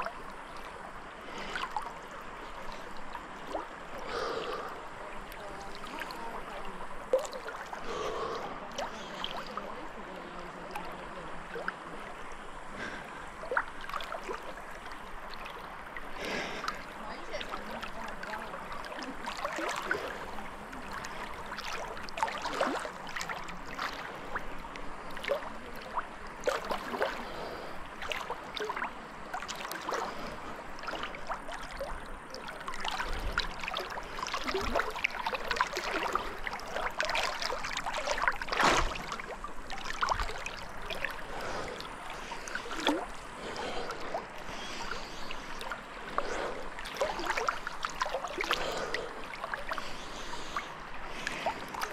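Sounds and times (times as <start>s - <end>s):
river water splashing and gurgling: 0.0s - 51.9s.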